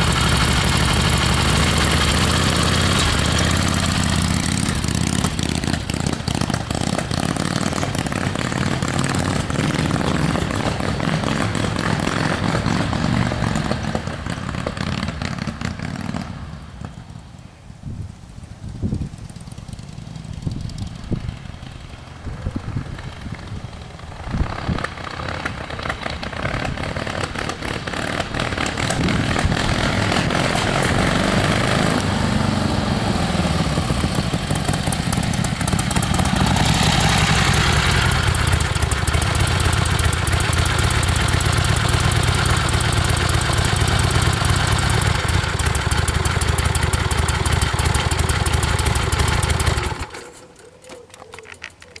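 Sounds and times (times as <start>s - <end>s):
motorcycle engine running: 0.0s - 16.4s, 18.9s - 50.5s.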